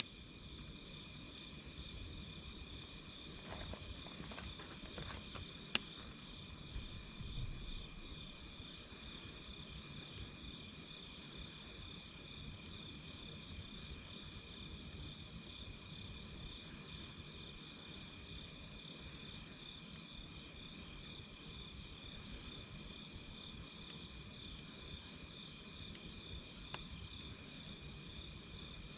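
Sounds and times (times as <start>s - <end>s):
campfire rumble: 0.0s - 28.9s
crickets trilling: 0.0s - 28.9s
fire crackling: 0.0s - 28.9s.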